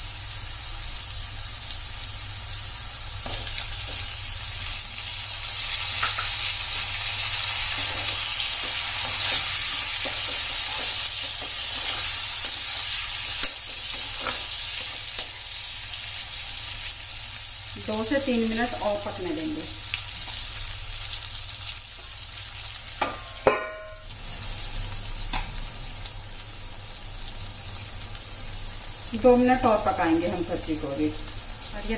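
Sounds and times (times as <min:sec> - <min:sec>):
vegetables sizzling in oil: 0:00.0 - 0:31.9.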